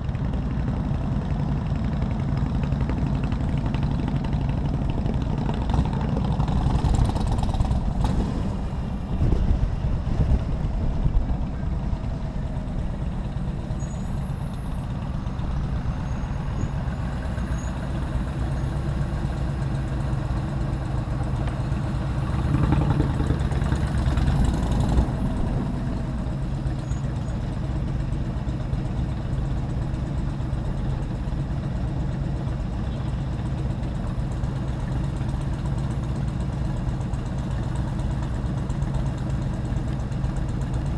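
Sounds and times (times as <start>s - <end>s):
city traffic noise: 0.0s - 40.9s
motorcycle engine running: 0.0s - 40.9s.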